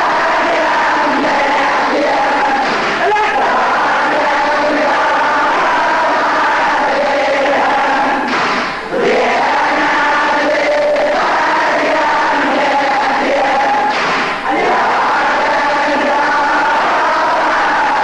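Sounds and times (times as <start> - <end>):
voices chanting a lament: 0.0 - 18.0.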